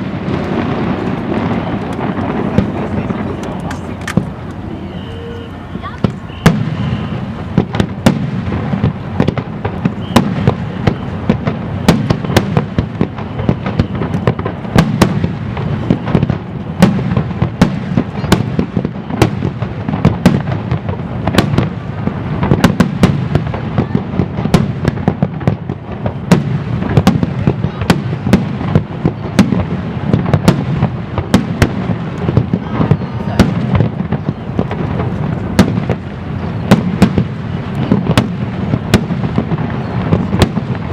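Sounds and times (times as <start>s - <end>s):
fireworks bursting with sharp bangs: 0.0s - 40.9s.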